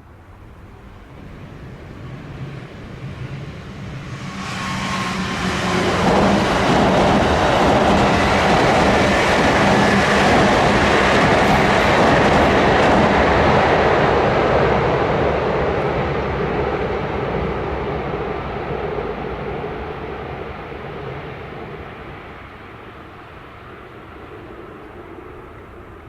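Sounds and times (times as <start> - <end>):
train crossing a railway bridge: 0.0 - 26.0.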